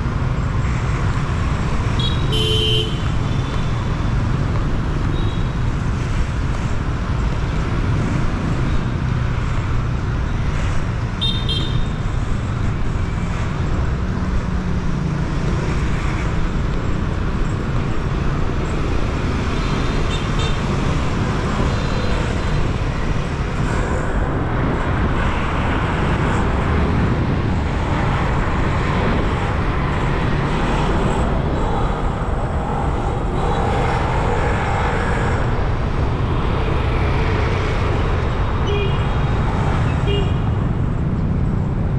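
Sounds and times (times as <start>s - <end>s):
city street traffic: 0.0s - 41.9s.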